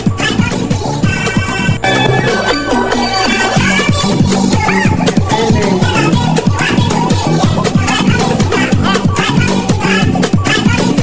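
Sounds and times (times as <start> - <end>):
sped-up dance song: 0.0 - 11.0.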